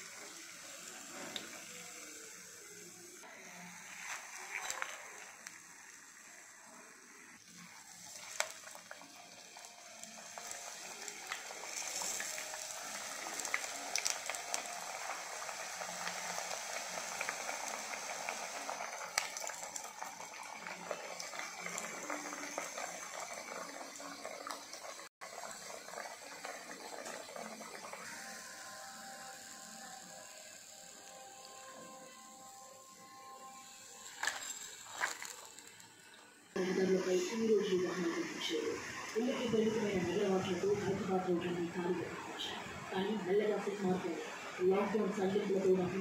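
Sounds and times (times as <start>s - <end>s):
crackers deep-frying in hot oil: 0.0s - 37.8s.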